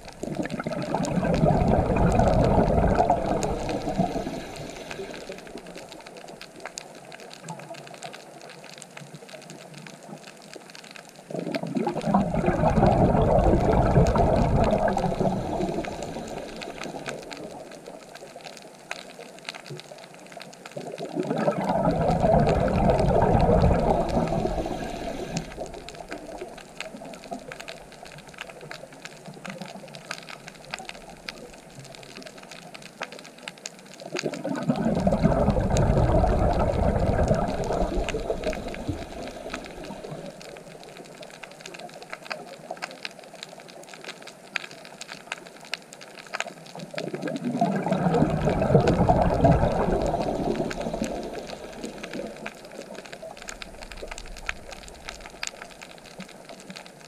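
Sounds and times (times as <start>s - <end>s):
diver's bubbles gurgling: 0.0s - 57.0s
faint crackle of clicks: 0.0s - 57.0s.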